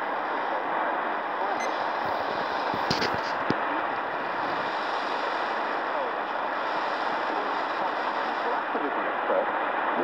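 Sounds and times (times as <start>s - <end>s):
faint radio broadcast signal: 0.0s - 10.0s
shortwave radio hiss: 0.0s - 10.0s.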